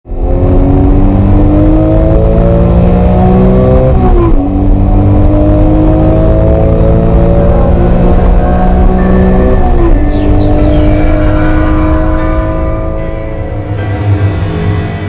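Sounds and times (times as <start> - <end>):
car engine accelerating: 0.1 - 15.0.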